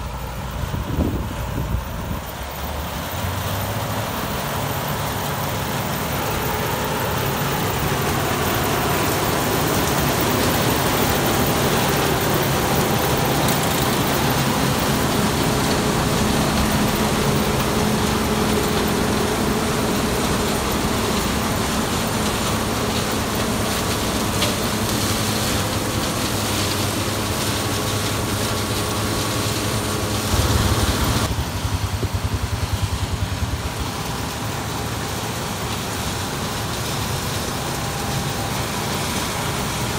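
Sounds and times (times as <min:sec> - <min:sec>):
farm machinery engine hum: 0:00.0 - 0:39.9.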